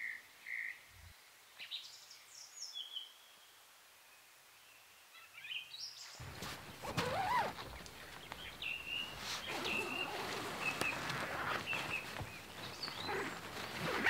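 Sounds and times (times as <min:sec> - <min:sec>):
songbird chirping: 0:00.0 - 0:14.0
steady background hiss: 0:00.0 - 0:14.0.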